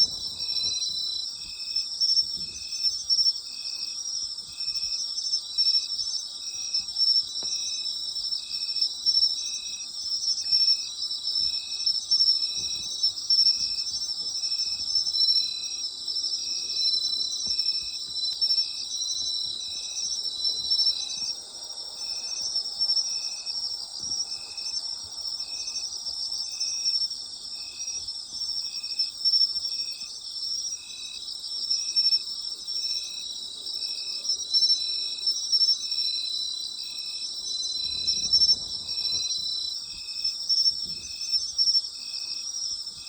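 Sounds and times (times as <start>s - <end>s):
insect chirping rhythmically: 0.0s - 43.0s
insects trilling: 0.0s - 43.0s.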